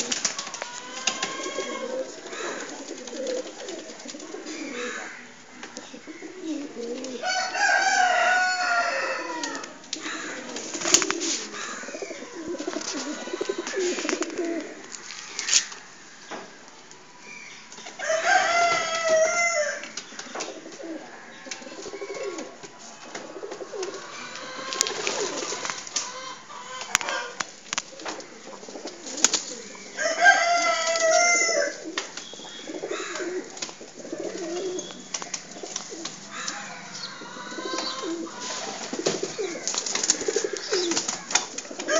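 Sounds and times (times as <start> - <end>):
pigeons cooing: 0.0 - 16.4, 18.0 - 41.9.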